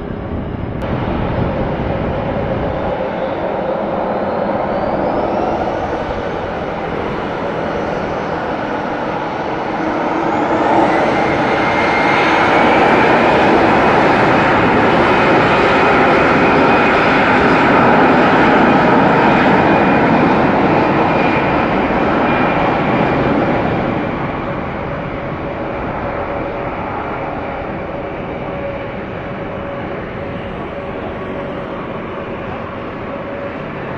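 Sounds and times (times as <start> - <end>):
jet engines spooling up: 0.0 - 33.9.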